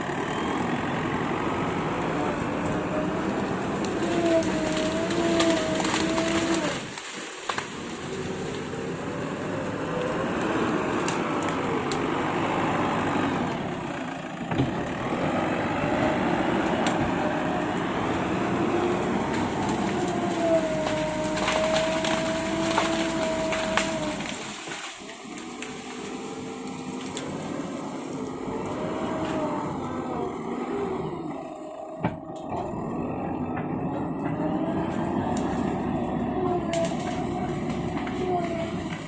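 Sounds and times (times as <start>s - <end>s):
excavator engine and hydraulics whine: 0.0s - 39.0s.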